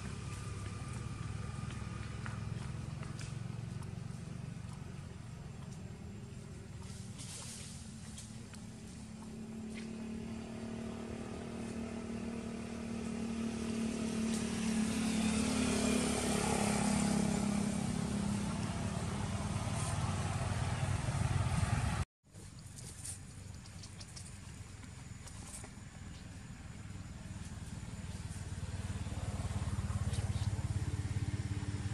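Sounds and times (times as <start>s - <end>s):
engine hum: 0.0s - 31.9s
outdoor background: 0.0s - 31.9s.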